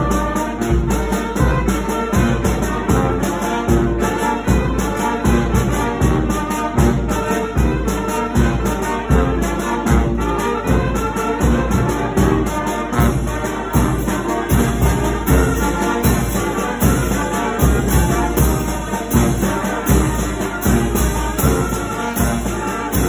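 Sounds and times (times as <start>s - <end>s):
brass horns playing dance music: 0.0s - 23.0s
steady low drum beat: 0.0s - 23.0s.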